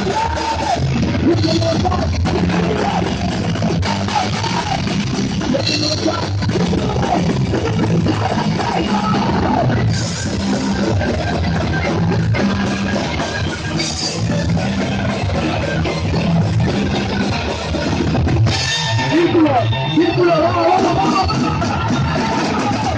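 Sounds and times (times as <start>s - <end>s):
distorted electric guitars: 0.0s - 22.9s
pounding drum kit: 0.0s - 22.9s.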